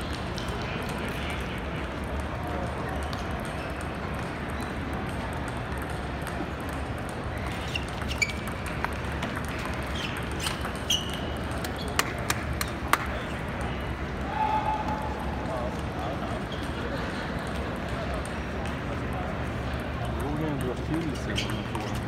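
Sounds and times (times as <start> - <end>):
table tennis balls clicking: 0.0 - 14.2, 15.1 - 22.0
murmur of large hall: 0.0 - 22.0.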